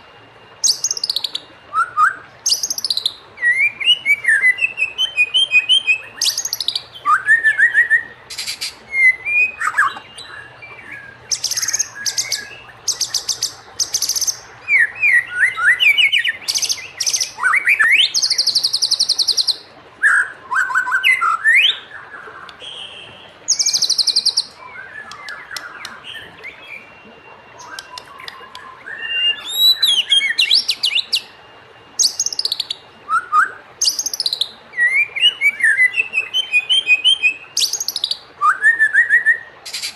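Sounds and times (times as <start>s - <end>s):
bird whistled song and trills: 0.0s - 39.9s.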